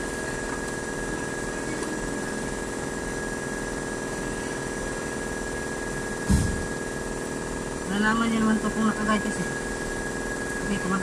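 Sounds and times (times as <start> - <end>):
machine hum with high whine: 0.0 - 11.0.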